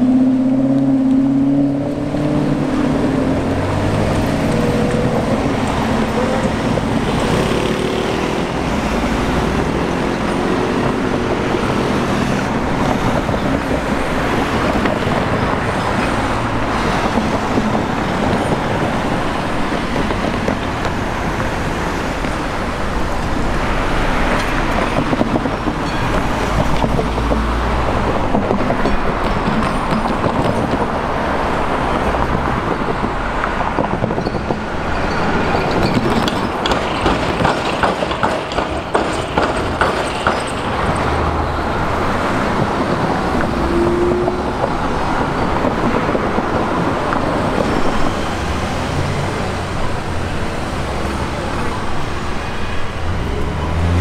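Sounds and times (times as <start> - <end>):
vehicle traffic noise: 0.0 - 54.0.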